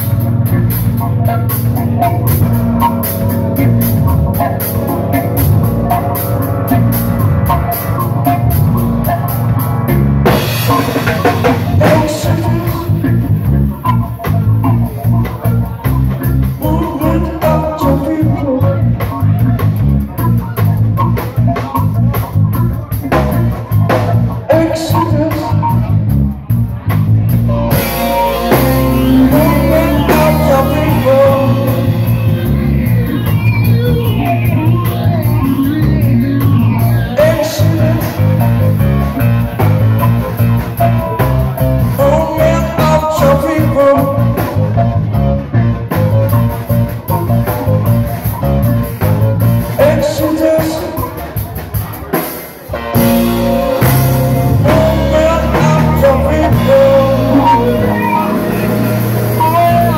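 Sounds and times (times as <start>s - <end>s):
drum kit: 0.0s - 59.9s
electric keyboard: 0.0s - 59.9s
steel guitar: 0.0s - 59.9s.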